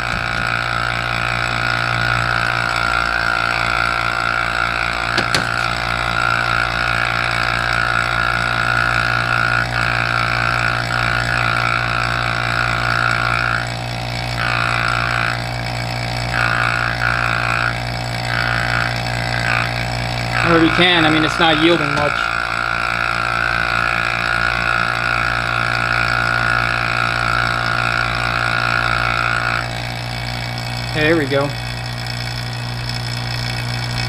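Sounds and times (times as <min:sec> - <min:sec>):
vacuum pump humming: 0:00.0 - 0:34.0.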